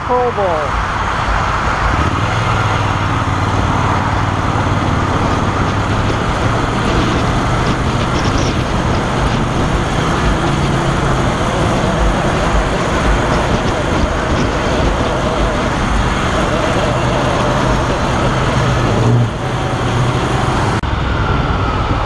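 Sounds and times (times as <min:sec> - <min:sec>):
wind rush on microphone: 0:00.7 - 0:22.0
motorcycle engine running: 0:01.3 - 0:20.8.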